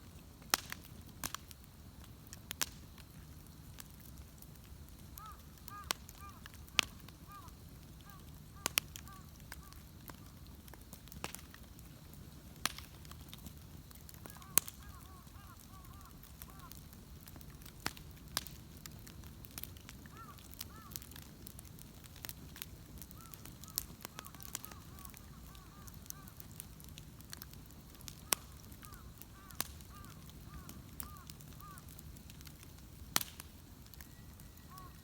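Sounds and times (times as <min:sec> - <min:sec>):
bonfire crackling and popping: 0:00.0 - 0:35.0
low rumble of burning: 0:00.0 - 0:35.0.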